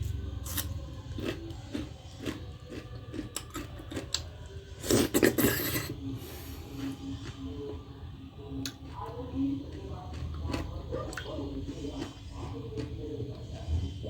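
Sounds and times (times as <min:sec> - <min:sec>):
food chewing clicks and scrapes: 0:00.0 - 0:06.0, 0:06.6 - 0:07.8, 0:08.6 - 0:14.0.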